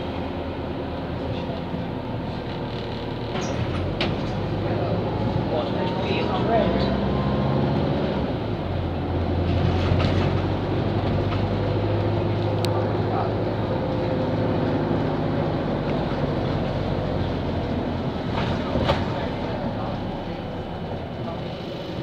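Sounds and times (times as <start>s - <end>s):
vehicle engine drone and road noise: 0.0s - 22.0s.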